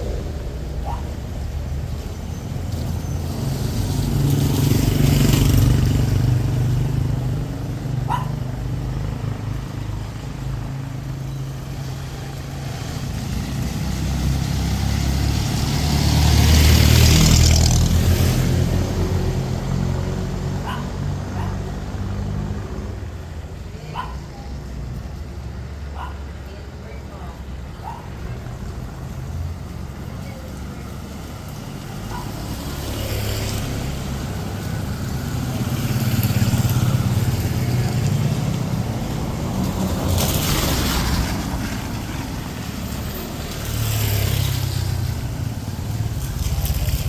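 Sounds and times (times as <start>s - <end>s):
engine rumble: 0.0s - 47.0s
vehicles passing on wet road: 0.0s - 47.0s.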